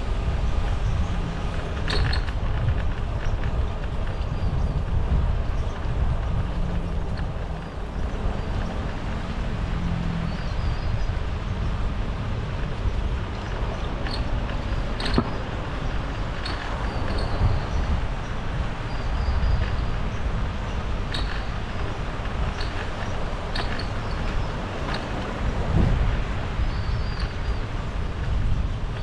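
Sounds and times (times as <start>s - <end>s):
sharp clicks and rattles: 0.0s - 29.0s
wind rumbling on microphone: 0.0s - 29.0s.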